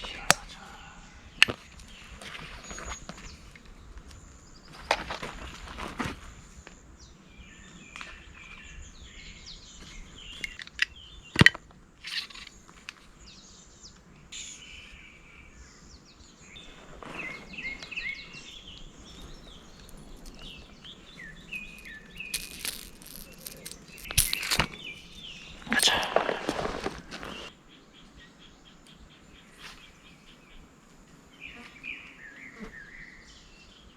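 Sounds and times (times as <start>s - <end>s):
birds chirping: 0.0s - 5.6s, 6.3s - 33.9s.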